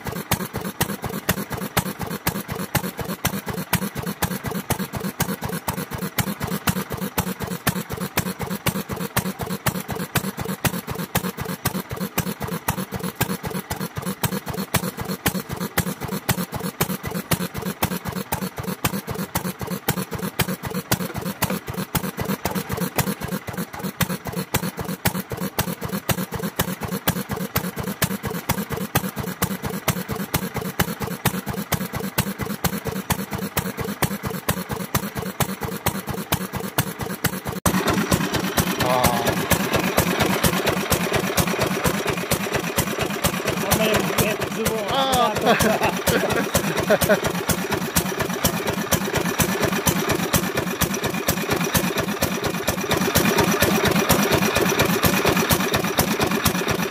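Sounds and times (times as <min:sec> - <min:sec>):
stationary oil engine running: 0:00.0 - 0:56.9.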